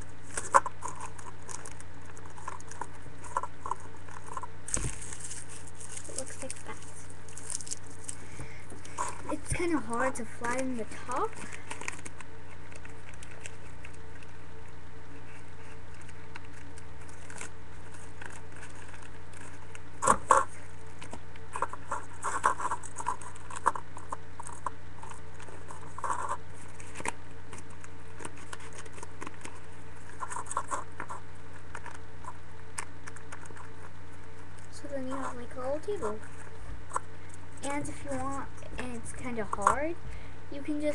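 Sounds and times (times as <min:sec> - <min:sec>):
low electrical hum: 0:00.0 - 0:40.9
paper crinkling: 0:00.1 - 0:39.8.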